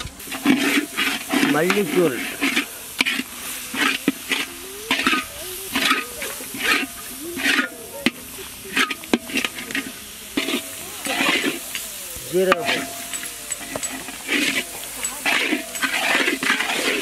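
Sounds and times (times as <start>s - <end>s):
oil frying sizzle: 0.0s - 17.0s
metal ladle scraping a pan: 0.2s - 17.0s.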